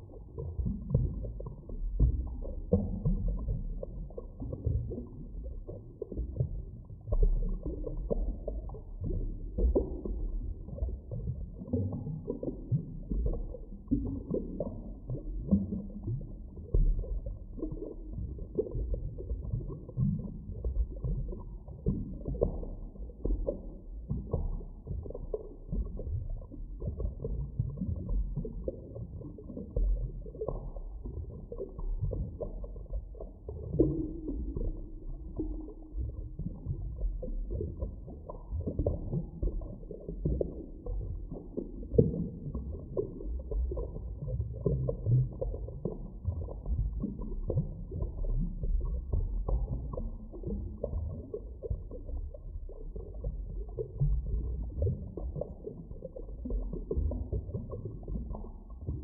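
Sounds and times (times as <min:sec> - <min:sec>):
underwater rumbling and gurgling: 0:00.0 - 0:59.0.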